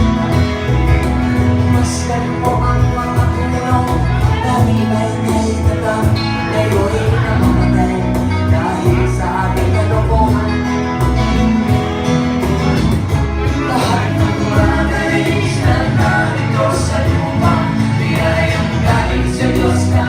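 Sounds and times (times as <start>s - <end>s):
guitars: 0.0s - 20.0s
steady drum beat: 0.0s - 20.0s
person singing: 1.4s - 11.9s, 13.4s - 20.0s.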